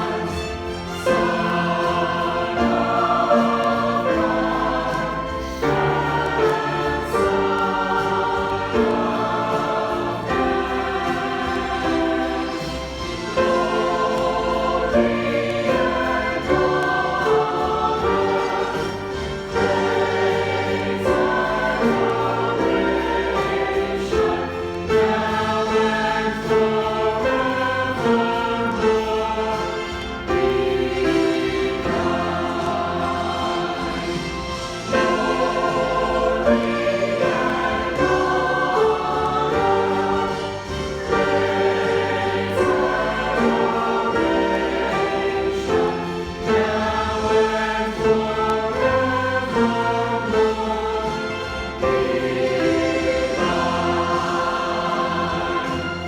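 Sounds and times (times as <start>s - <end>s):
church choir singing: 0.0s - 56.0s
instrumental accompaniment: 0.0s - 56.0s.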